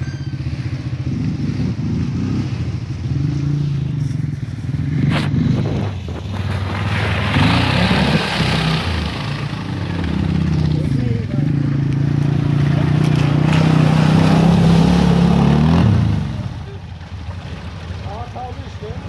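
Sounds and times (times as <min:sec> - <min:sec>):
atv engines running: 0:00.0 - 0:19.0
wheels splashing water: 0:00.0 - 0:19.0.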